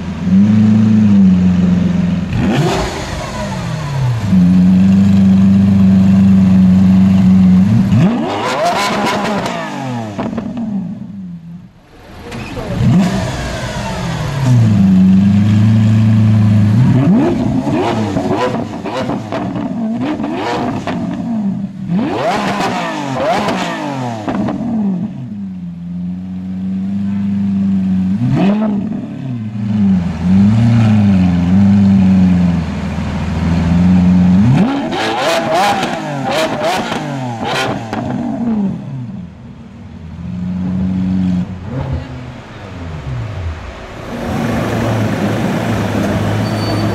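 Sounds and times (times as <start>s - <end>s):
sports car engine revving: 0.0s - 46.9s.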